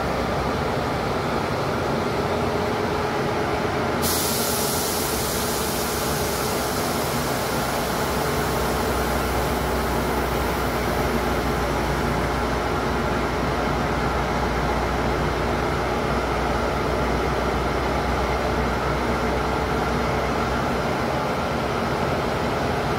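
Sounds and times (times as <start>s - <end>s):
diesel train rumbling past: 0.0s - 22.9s.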